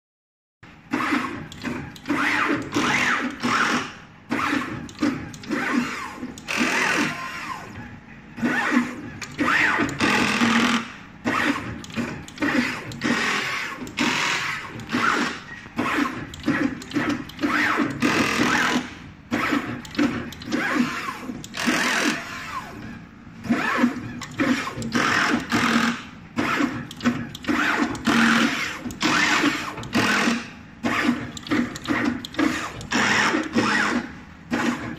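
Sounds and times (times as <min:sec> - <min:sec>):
pick-and-place machine running: 0:00.8 - 0:34.9.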